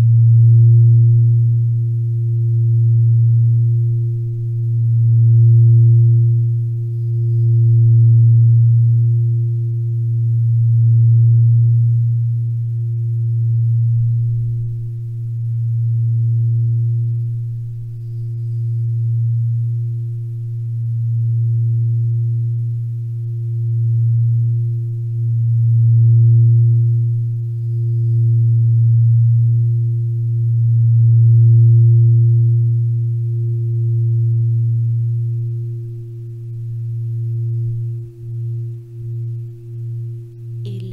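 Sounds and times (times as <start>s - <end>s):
low drone relaxation music: 0.0s - 40.9s.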